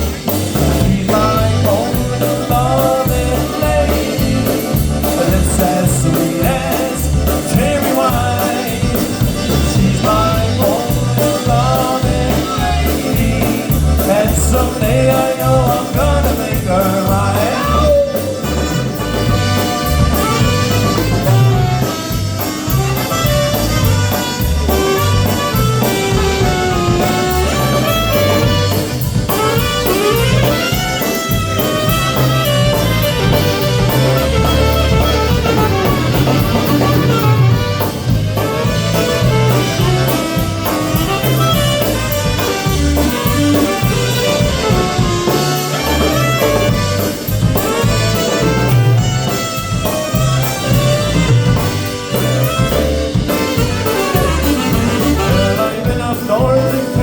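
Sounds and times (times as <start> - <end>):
bass line: 0.0 - 57.0
drum kit: 0.0 - 57.0
saxophone and brass melody: 0.0 - 57.0.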